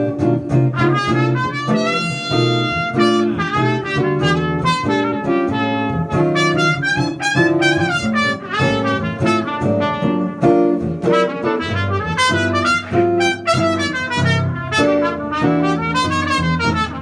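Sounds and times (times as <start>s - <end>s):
jazz guitar accompaniment: 0.0s - 17.0s
jazz trumpet playing: 0.0s - 17.0s.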